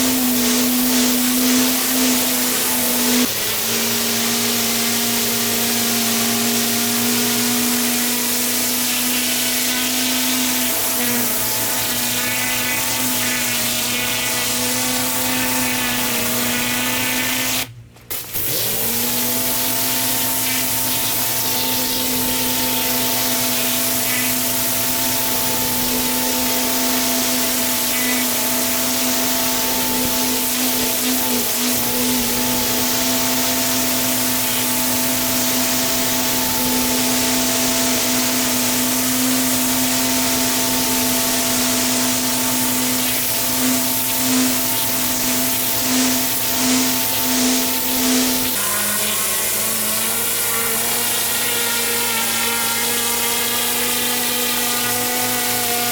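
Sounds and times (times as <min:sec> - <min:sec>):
water spray hissing on paving: 0:00.0 - 0:14.2, 0:19.6 - 0:55.9
pressure washer motor hum: 0:00.0 - 0:55.9.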